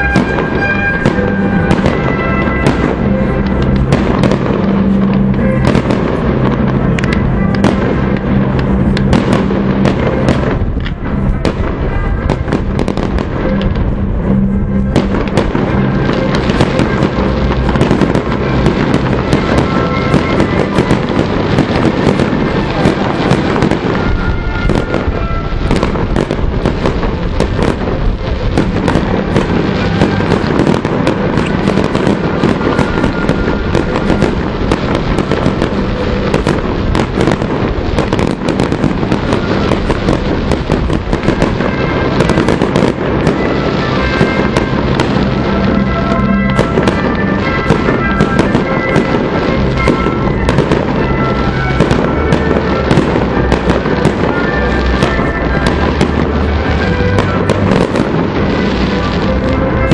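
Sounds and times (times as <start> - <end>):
fireworks bursting and crackling: 0.0 - 59.9
music playing: 0.0 - 59.9.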